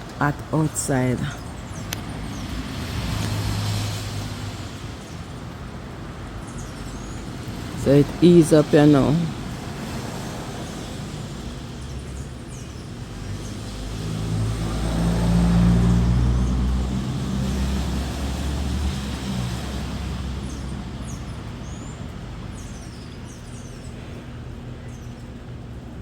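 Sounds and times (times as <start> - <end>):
vehicle passing by: 0.6 - 24.4.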